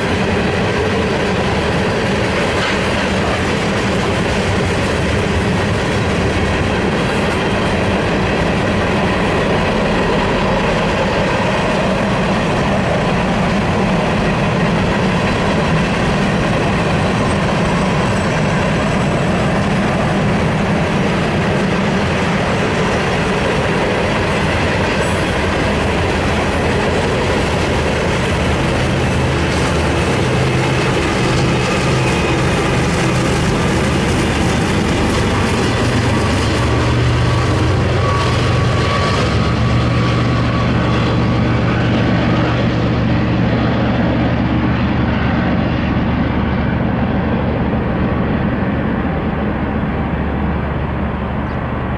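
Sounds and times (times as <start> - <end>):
train wheels rolling on rails: 0.0 - 51.9.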